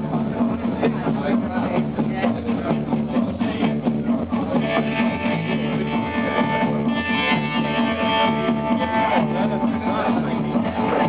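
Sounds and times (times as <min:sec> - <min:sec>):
live band with lead guitar: 0:00.0 - 0:11.0
repeating bass line: 0:00.0 - 0:11.0.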